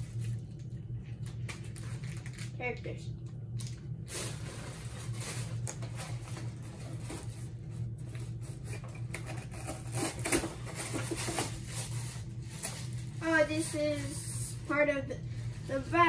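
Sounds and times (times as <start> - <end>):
cardboard and plastic rustling: 0.0 - 2.7, 3.6 - 16.0
steady low hum: 0.0 - 16.0.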